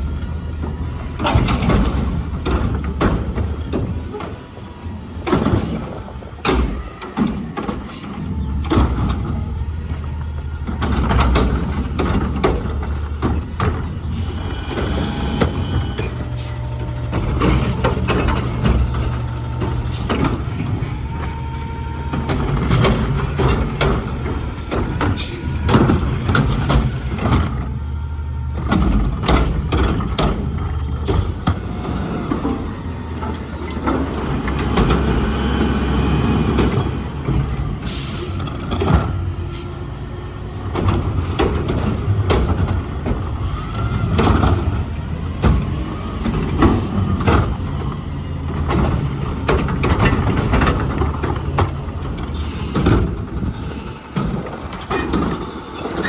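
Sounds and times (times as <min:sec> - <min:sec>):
metal clanks and knocks: 0:00.0 - 0:27.8, 0:28.4 - 0:56.0
garbage truck engine running: 0:00.0 - 0:56.0.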